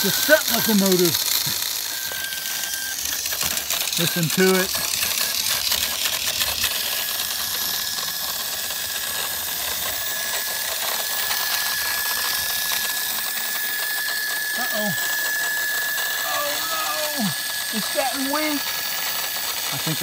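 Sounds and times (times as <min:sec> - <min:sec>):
toy motor whining: 0:00.0 - 0:20.0.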